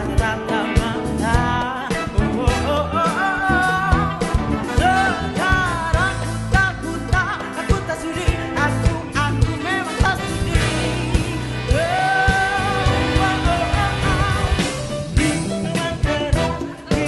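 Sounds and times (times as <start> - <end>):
pop-rock song with vocals: 0.0 - 17.0.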